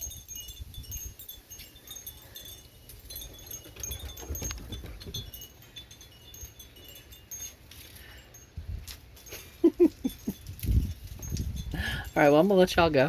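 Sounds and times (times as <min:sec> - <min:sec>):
wind chimes tinkling: 0:00.0 - 0:13.0.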